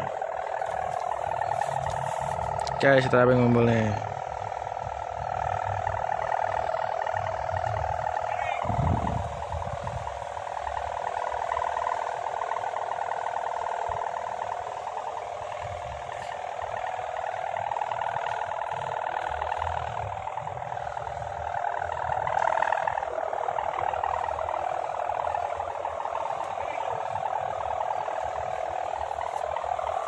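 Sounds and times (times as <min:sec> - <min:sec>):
kite hummer fluttering buzz: 0:00.0 - 0:30.0
wind rumble on microphone: 0:04.0 - 0:30.0.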